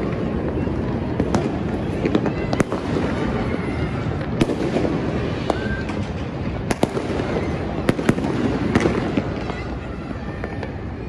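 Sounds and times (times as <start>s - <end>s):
firework bangs: 0.0s - 11.0s
firework whistle: 0.0s - 11.0s
fireworks crackling: 0.0s - 11.0s.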